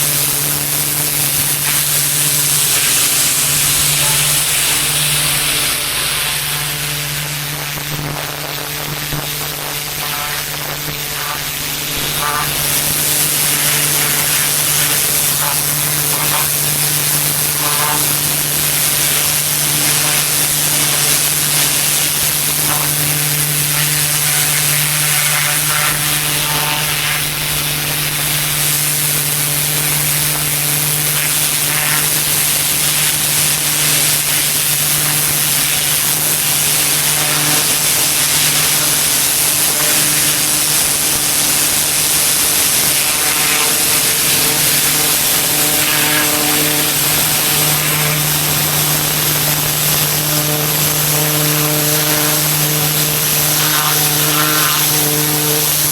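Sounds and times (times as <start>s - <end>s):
pressure washer hum: 0.0s - 55.9s
water spray hissing on concrete: 0.0s - 55.9s.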